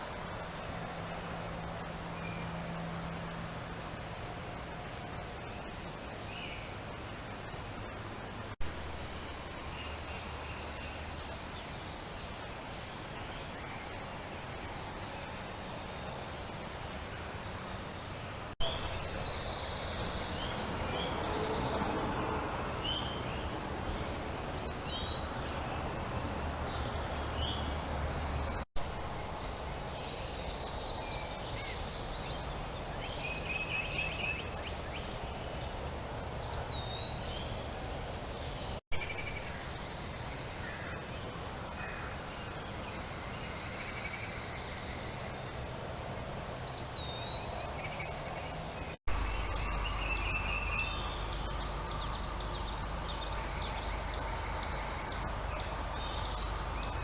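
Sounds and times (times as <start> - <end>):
background hiss: 0.0 - 57.0
wild birds calling and singing: 9.2 - 57.0.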